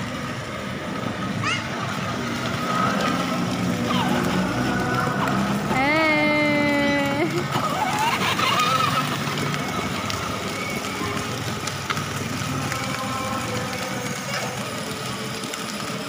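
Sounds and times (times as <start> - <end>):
plastic wheels rattling on paving: 0.0 - 16.0.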